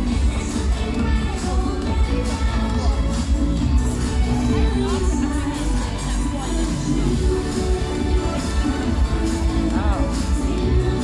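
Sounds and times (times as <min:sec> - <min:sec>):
upbeat parade music over loudspeakers: 0:00.0 - 0:11.0.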